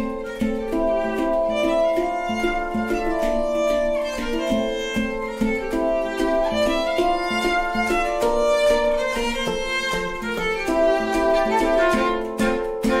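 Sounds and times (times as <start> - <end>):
handpan notes: 0.0 - 13.0
violin melody: 0.0 - 13.0.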